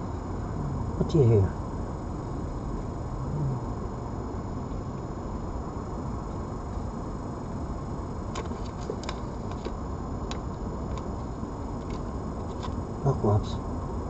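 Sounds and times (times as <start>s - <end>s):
faint high whine: 0.0s - 14.0s
low background rumble: 0.0s - 14.0s.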